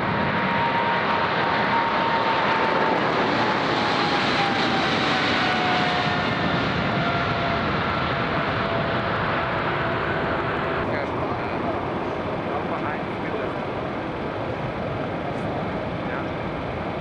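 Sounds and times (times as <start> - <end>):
jet engines on takeoff roll: 0.0 - 17.0.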